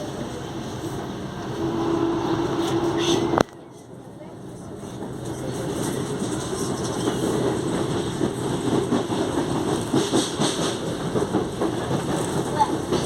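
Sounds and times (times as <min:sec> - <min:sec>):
wheels clattering on rails: 0:00.0 - 0:13.0.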